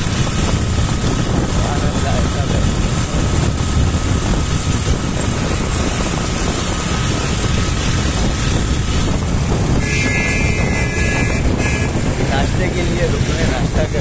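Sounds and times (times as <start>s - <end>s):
motorcycle engine and road noise: 0.0s - 14.0s
wind rushing over microphone: 0.0s - 14.0s.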